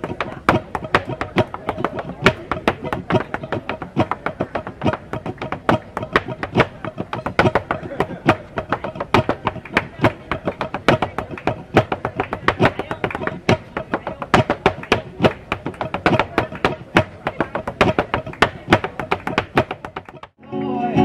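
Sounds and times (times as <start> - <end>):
dance shoes striking wooden stage: 0.0 - 20.4.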